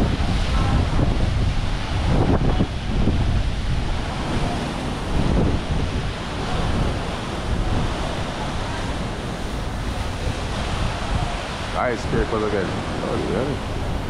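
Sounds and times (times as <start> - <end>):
fountain splashing: 0.0 - 14.0
wind buffeting microphone: 0.0 - 14.0.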